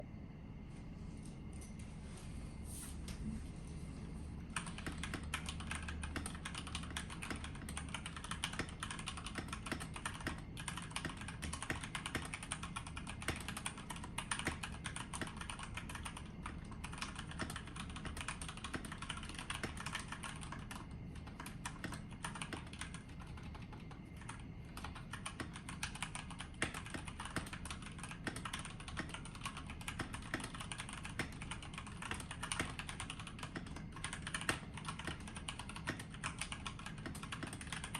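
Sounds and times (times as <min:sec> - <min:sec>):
fast typing on mechanical keyboard: 0:04.5 - 0:37.9.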